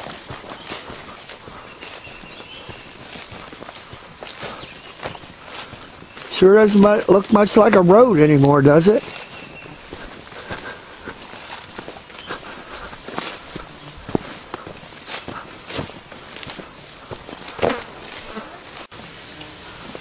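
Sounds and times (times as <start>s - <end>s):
footsteps crunching brush: 0.0s - 20.0s
high-pitched insect chorus: 0.0s - 20.0s.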